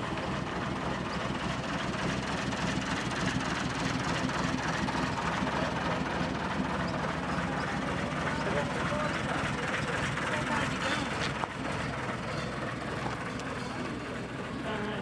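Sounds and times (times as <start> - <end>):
heavy bus engine running: 0.0 - 15.0.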